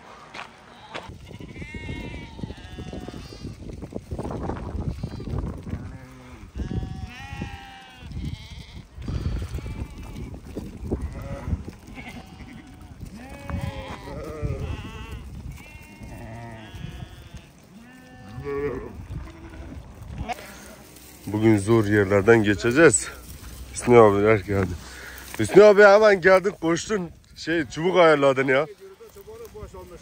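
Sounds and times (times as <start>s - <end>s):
sheep bleating: 0.7s - 3.5s, 4.9s - 29.3s.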